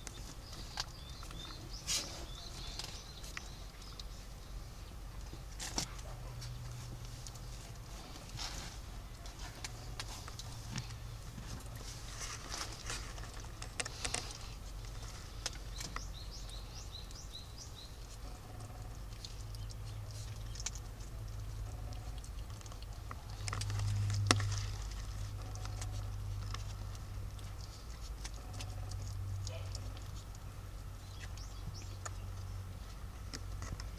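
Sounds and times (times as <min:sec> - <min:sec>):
kitten claws scratching and pattering: 0:00.0 - 0:33.9.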